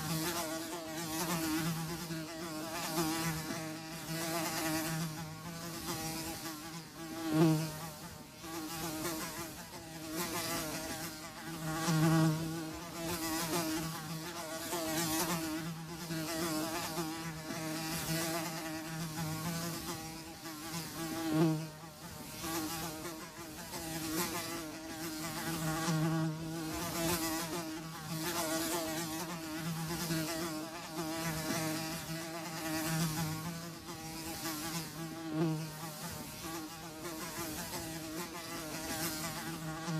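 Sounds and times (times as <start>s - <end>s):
houseflies buzzing: 0.0s - 39.9s.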